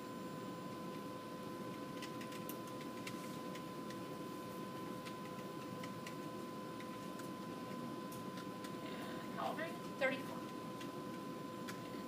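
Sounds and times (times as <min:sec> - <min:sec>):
electrical hum with high tone: 0:00.0 - 0:12.0.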